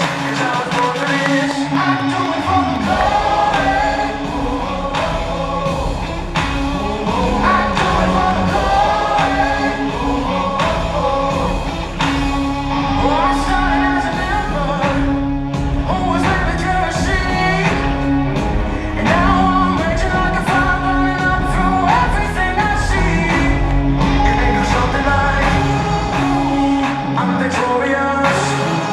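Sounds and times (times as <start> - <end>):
instrumental show music: 0.0 - 28.9
person singing: 0.0 - 28.9
held bass notes: 1.6 - 27.6.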